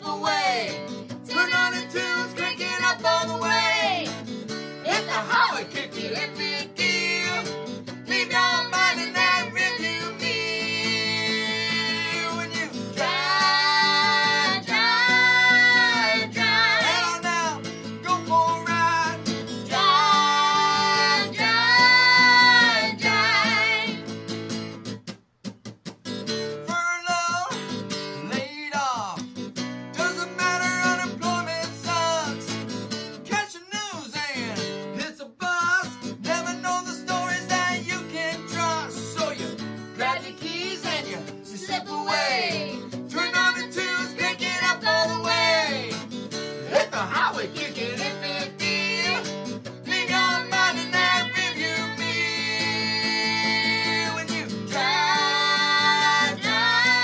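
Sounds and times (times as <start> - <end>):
girl and man singing: 0.0 - 4.2, 4.8 - 24.0, 30.0 - 32.4, 35.0 - 46.0, 46.7 - 57.0
acoustic guitar strumming: 0.0 - 33.5, 34.2 - 57.0.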